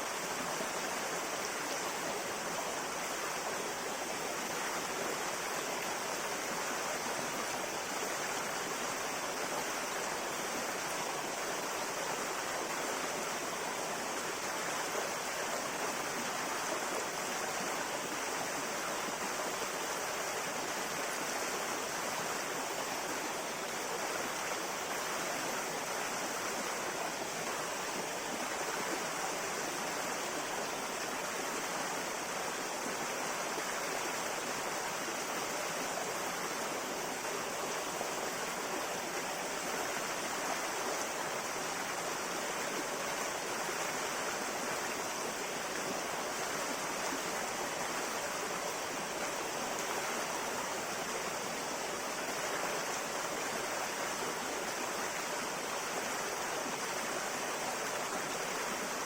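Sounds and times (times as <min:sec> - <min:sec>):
river running over rocks: 0:00.0 - 0:59.0.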